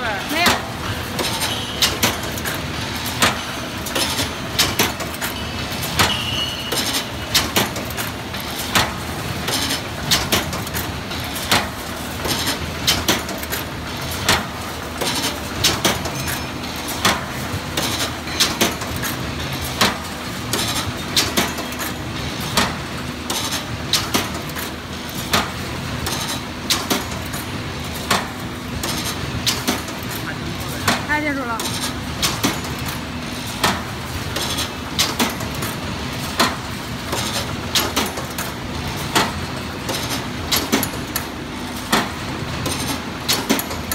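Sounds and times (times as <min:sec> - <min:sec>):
sharp machine clacks and knocks: 0:00.0 - 0:43.9.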